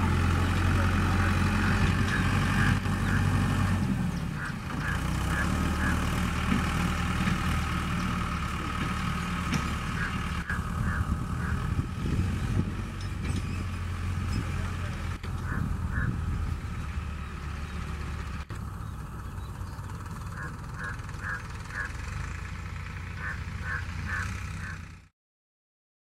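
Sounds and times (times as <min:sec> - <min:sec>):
tractor diesel engine running: 0:00.0 - 0:25.1.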